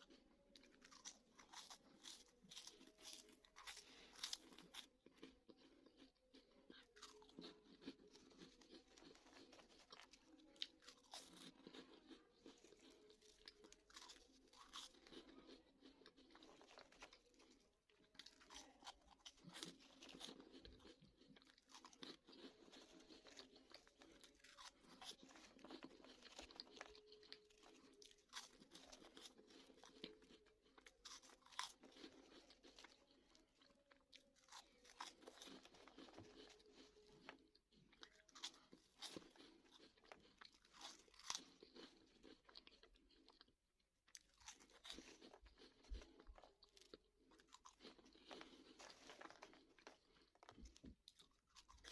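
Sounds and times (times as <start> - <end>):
crunchy snack chewing: 0.0 - 51.9.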